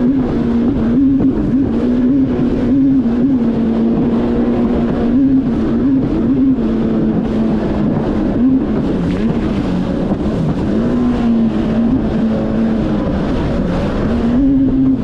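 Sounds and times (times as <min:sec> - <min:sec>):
jet ski engine running: 0:00.0 - 0:15.0
rush of wind and water: 0:00.0 - 0:15.0.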